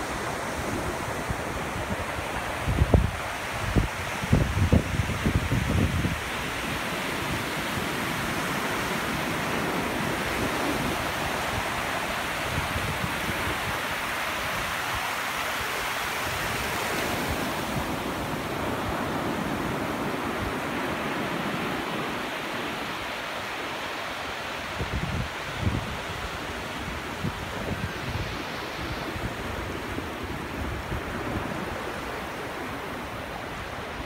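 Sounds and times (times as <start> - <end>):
ocean waves breaking on beach: 0.0 - 34.0.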